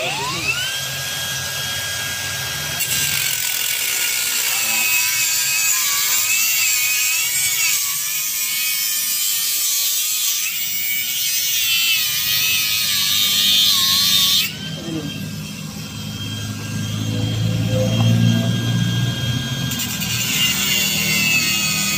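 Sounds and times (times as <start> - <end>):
angle grinder whining: 0.0 - 21.9.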